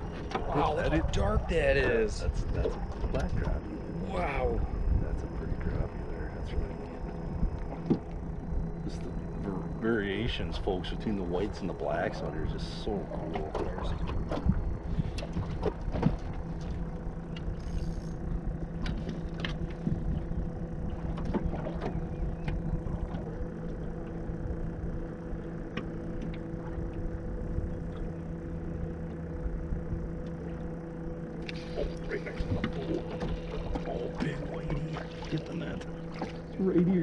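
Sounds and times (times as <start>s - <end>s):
wind rumble: 0.0s - 36.6s
motor humming: 0.0s - 37.0s.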